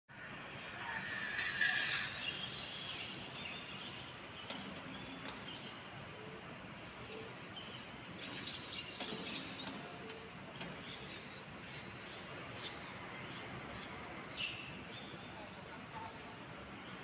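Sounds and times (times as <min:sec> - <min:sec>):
outdoor background noise: 0:00.1 - 0:17.0.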